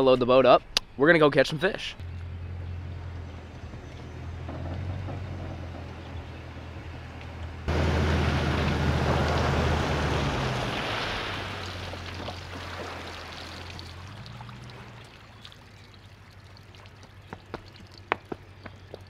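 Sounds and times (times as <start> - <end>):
truck engine humming: 2.0 - 19.0.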